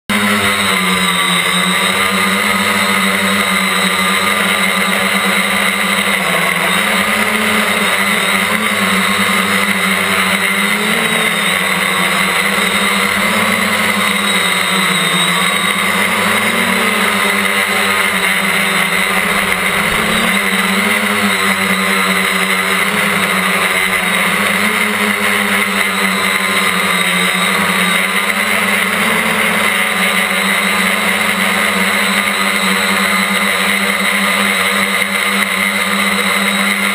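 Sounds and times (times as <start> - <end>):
quadcopter motors humming: 0.1 - 36.9.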